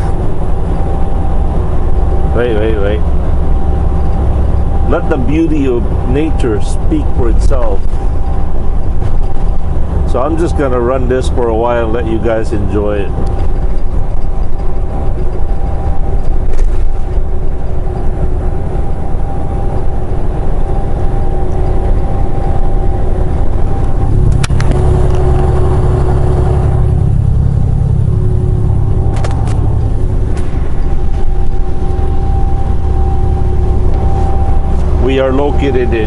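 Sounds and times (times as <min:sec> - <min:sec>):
faint constant hum: 0:00.0 - 0:36.0
road noise: 0:00.0 - 0:36.0
truck diesel engine rumble: 0:00.0 - 0:36.0.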